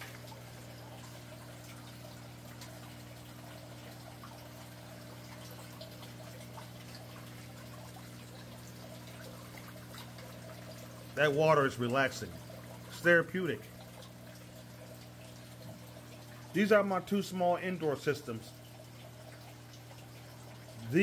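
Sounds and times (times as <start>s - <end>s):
water trickling: 0.0s - 21.0s.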